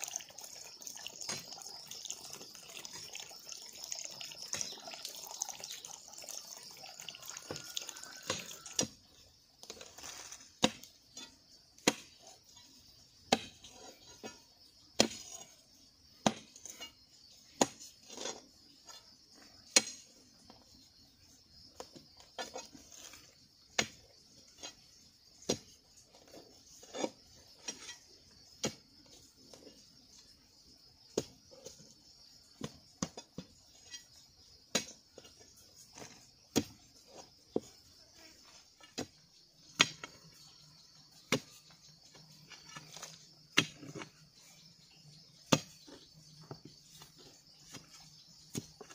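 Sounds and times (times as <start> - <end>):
digging bar striking clay: 1.2 - 1.6, 7.5 - 30.4, 31.0 - 48.9.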